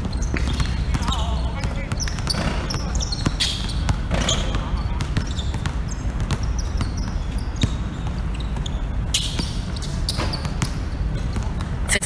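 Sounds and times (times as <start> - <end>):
basketball bouncing on hard court: 0.0 - 11.9.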